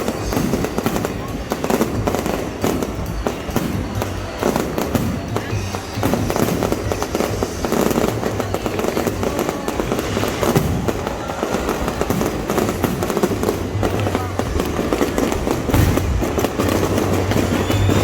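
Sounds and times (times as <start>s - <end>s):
fireworks bangs and crackles: 0.0s - 18.0s
music playing: 0.0s - 18.0s.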